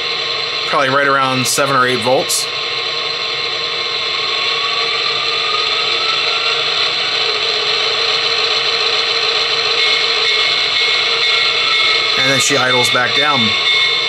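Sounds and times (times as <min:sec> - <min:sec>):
model train diesel engine sound: 0:00.0 - 0:14.0
rising whine: 0:00.0 - 0:14.0.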